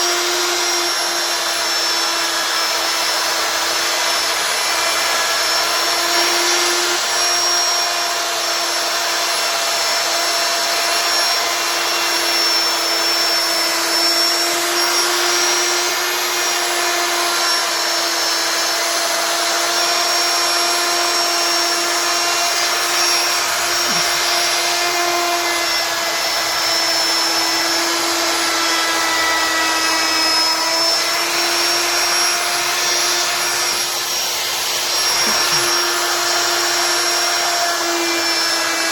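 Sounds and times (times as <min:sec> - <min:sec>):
router cutting wood hiss: 0:00.0 - 0:38.9
router spindle whine: 0:00.0 - 0:38.9.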